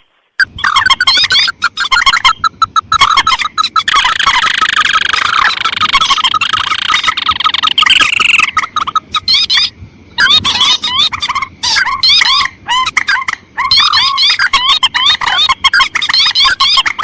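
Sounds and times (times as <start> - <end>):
bird calls sharp repeated notes: 0.0 - 17.0.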